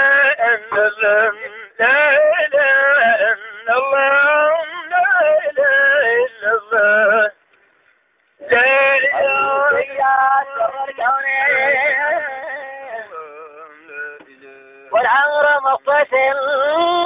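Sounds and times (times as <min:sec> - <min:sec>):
man singing devotional chant: 0:00.0 - 0:07.4, 0:08.4 - 0:17.0.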